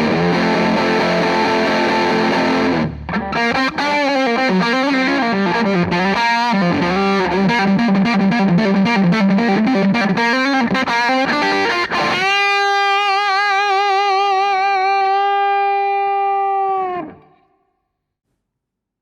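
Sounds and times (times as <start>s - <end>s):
distorted electric guitar: 0.0s - 17.4s.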